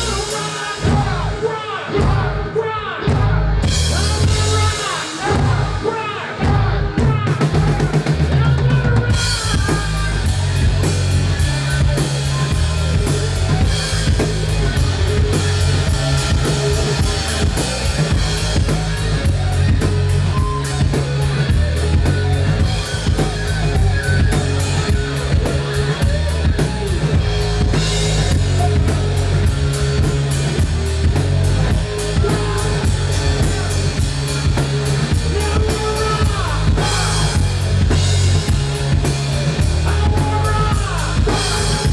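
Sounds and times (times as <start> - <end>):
heavy bass drum: 0.0 - 41.9
live rock band playing: 0.0 - 41.9.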